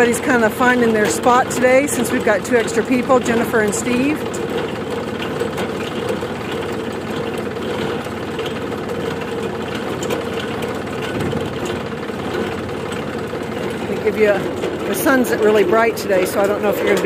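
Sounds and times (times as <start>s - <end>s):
harvester mechanical clatter: 0.0s - 17.0s
tractor engine running: 0.0s - 17.0s.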